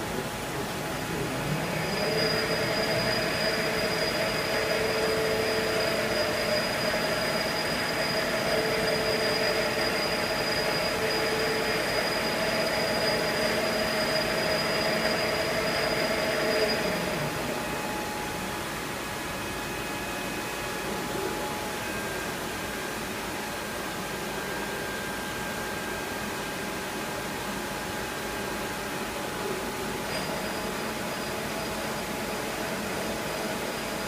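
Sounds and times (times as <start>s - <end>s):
machine whine: 0.0s - 34.0s.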